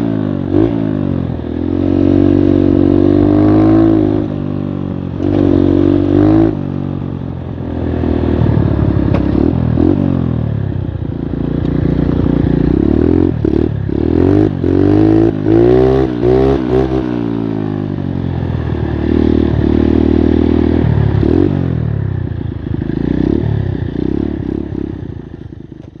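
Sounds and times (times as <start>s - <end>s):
moped engine revving: 0.0s - 26.0s.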